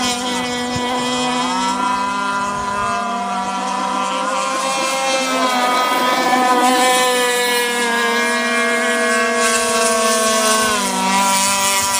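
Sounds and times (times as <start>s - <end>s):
model boat motors droning: 0.0s - 11.9s.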